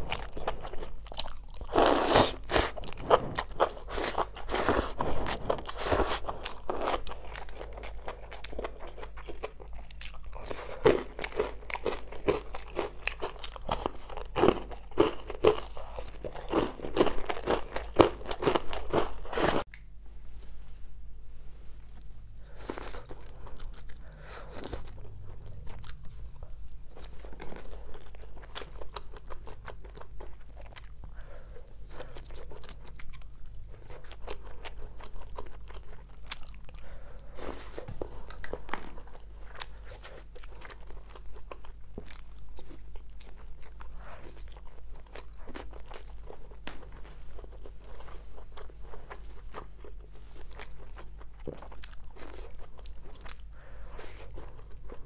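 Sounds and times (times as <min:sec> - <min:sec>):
chewing and crunching: 0:00.0 - 0:19.7, 0:21.9 - 0:55.0.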